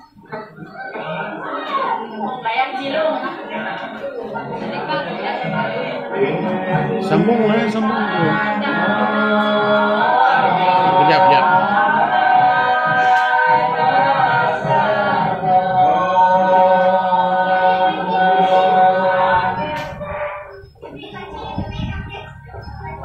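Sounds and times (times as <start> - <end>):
group singing unaccompanied: 0.0 - 23.0.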